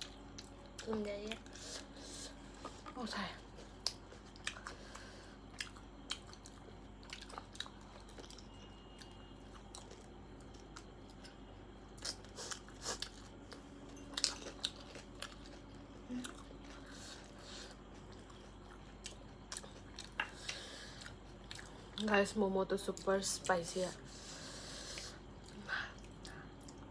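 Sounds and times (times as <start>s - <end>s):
person chewing food: 0.0s - 22.1s, 24.1s - 26.9s.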